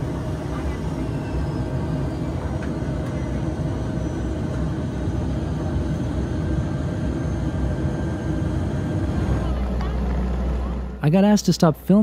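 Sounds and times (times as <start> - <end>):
propeller engine drone in cabin: 0.0 - 12.0.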